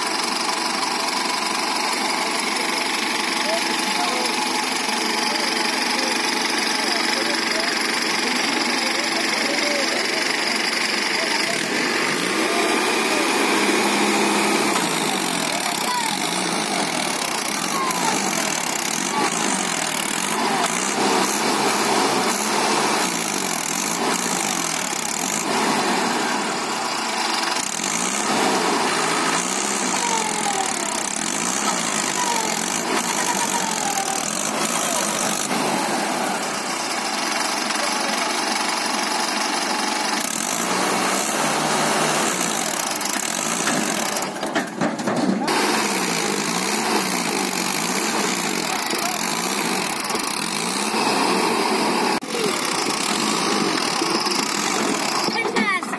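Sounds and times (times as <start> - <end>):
tractor diesel engine straining: 0.0 - 55.9
voices: 0.0 - 55.9.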